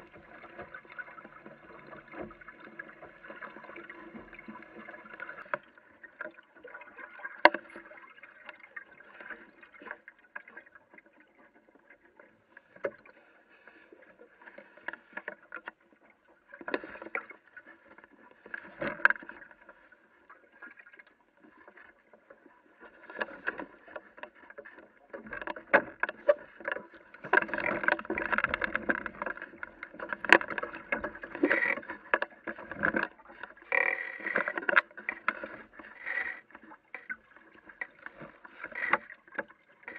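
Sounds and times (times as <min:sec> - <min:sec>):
water lapping against hull: 0:00.0 - 0:39.9.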